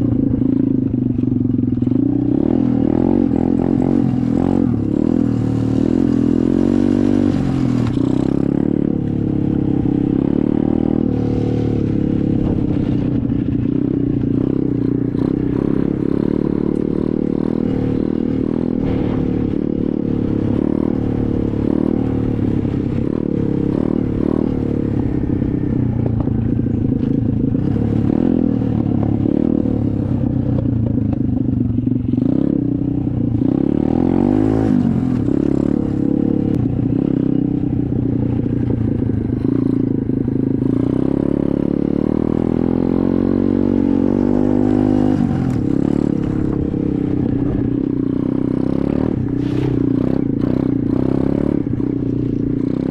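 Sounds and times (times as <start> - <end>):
dirt bike engine revving: 0.0 - 30.7, 31.7 - 52.9.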